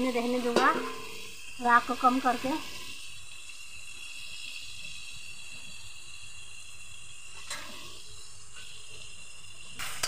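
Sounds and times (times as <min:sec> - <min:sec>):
food sizzling in a pot: 0:00.0 - 0:10.0.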